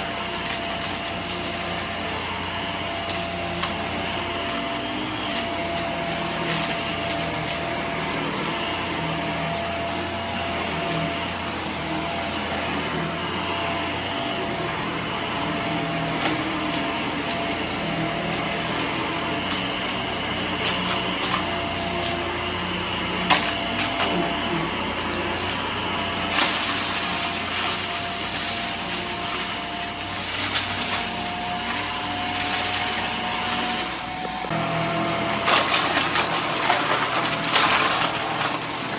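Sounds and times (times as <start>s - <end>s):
debris rattling in vacuum: 0.0s - 34.6s, 35.2s - 38.9s
vacuum cleaner motor whine: 0.0s - 38.9s.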